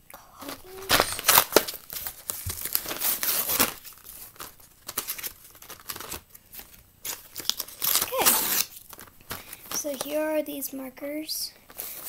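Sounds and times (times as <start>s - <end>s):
packaging crinkling and tearing: 0.3s - 10.1s.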